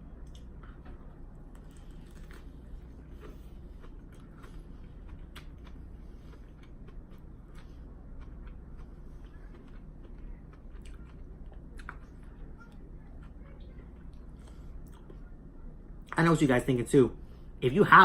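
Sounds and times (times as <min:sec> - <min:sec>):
steady low hum: 0:00.0 - 0:18.0
crunchy chewing: 0:00.2 - 0:15.2.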